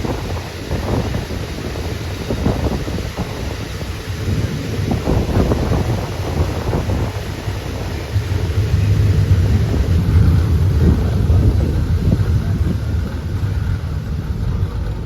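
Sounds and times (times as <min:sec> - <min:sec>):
vehicle rumbling: 0:00.0 - 0:15.0
wind buffeting microphone: 0:00.0 - 0:15.0.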